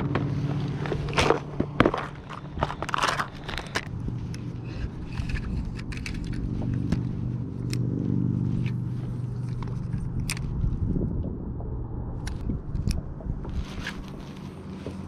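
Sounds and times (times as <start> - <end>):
boat motor running: 0.0 - 15.0
gear clicks and knocks: 0.0 - 15.0.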